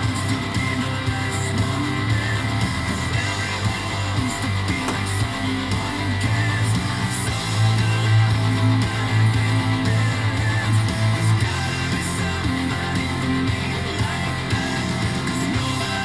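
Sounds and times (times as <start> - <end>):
low bass line: 0.0 - 16.0
strummed guitar music: 0.0 - 16.0.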